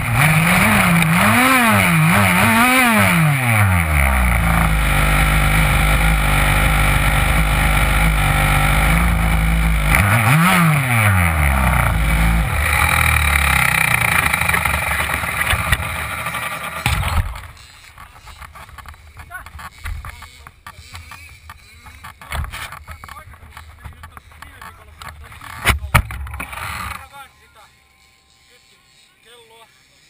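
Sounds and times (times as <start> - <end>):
small two-stroke engine idling: 0.0 - 25.6.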